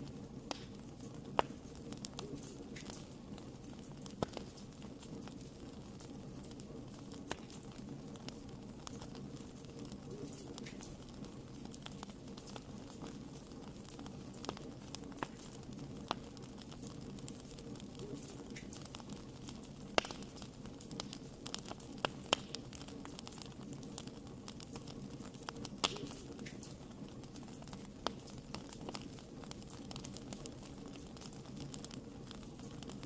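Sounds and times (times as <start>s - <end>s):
fire pops and snaps: 0.0s - 33.0s
low steady fire rumble: 0.0s - 33.0s.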